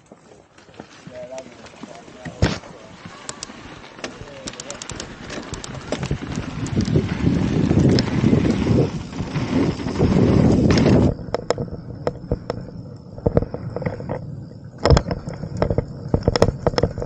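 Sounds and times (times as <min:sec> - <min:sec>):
bike clicks and rattles: 0:00.0 - 0:17.0
tyres rumbling on dirt trail: 0:00.0 - 0:17.0
wind buffeting microphone: 0:02.2 - 0:17.0.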